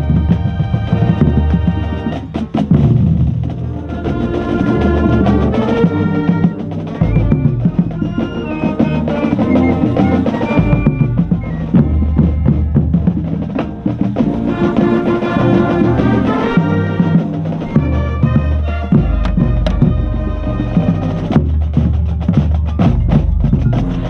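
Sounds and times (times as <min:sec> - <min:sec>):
brass and woodwinds holding notes: 0:00.0 - 0:24.0
heavy bass drums: 0:00.0 - 0:24.0
snare drum rolls: 0:00.0 - 0:24.0.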